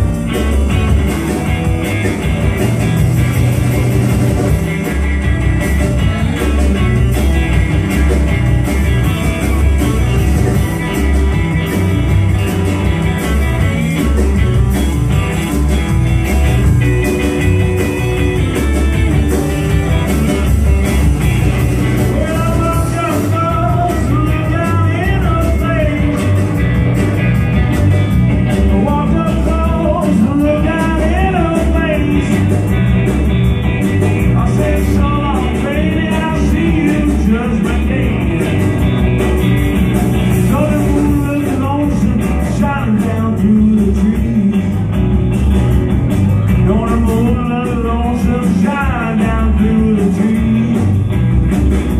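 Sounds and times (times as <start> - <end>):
blues-rock band playing live: 0.0 - 51.9.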